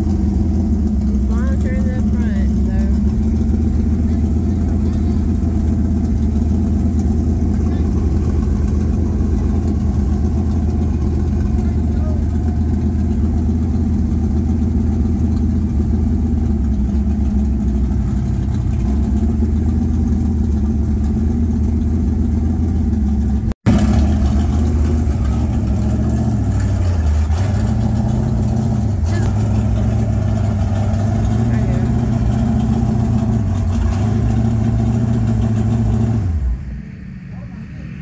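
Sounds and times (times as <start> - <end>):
race car engine idling: 0.0 - 38.0.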